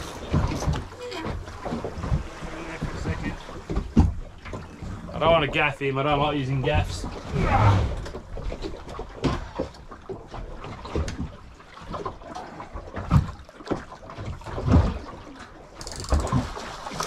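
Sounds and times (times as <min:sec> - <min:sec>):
water sloshing against boat hull: 0:00.0 - 0:17.0.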